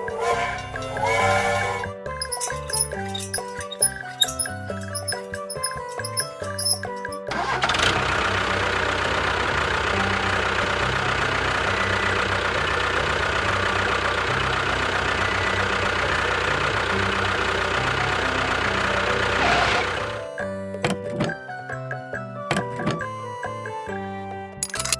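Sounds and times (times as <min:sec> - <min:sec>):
small motor running: 0:00.0 - 0:20.2.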